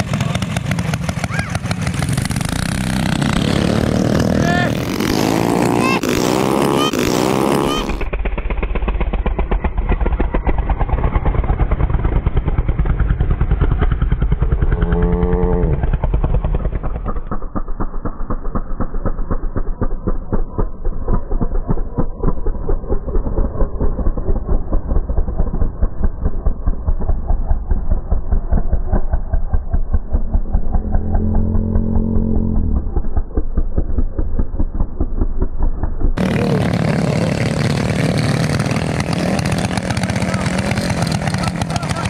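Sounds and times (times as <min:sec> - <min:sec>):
minibike engines revving: 0:00.0 - 0:42.0.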